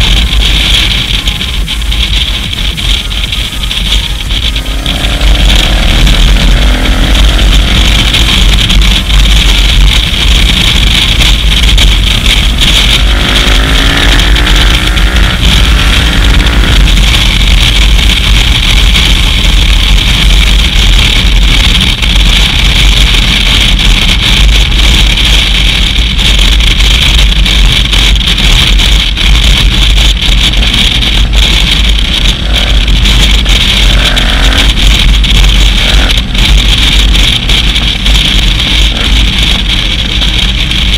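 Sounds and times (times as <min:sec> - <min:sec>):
distorted wind roar: 0:00.0 - 0:40.9
motorcycle engine accelerating: 0:00.0 - 0:40.9.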